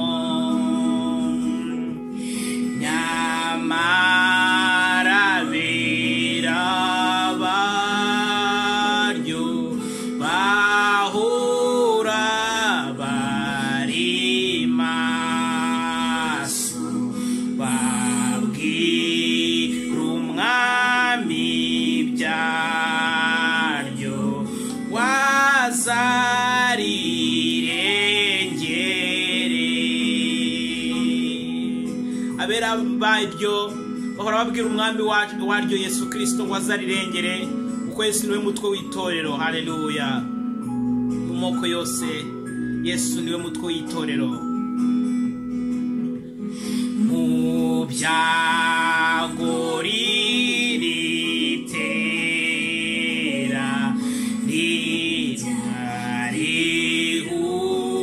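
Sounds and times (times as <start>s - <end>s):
man singing a hymn: 0.0s - 40.3s, 46.7s - 58.0s.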